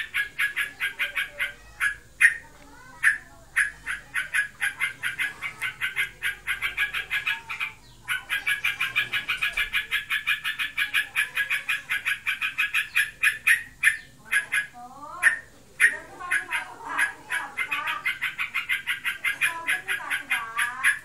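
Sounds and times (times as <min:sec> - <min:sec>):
bird chattering rapid notes: 0:00.0 - 0:21.0.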